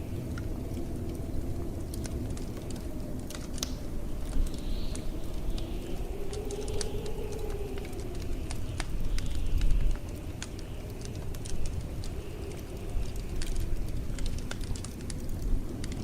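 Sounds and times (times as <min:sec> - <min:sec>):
blizzard wind rumbling: 0:00.0 - 0:16.0
howling wind gust: 0:00.0 - 0:16.0
wood fire crackling and popping: 0:00.0 - 0:16.0.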